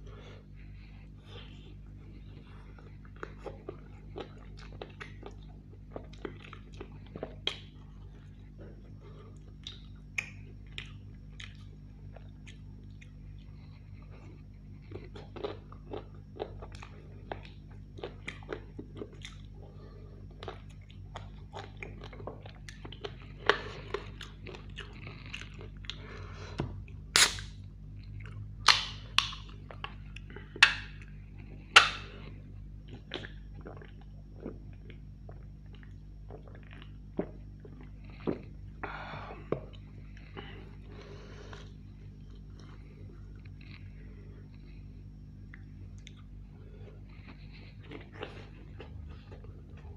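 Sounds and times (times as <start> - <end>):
man chewing food: 0.0 - 49.9.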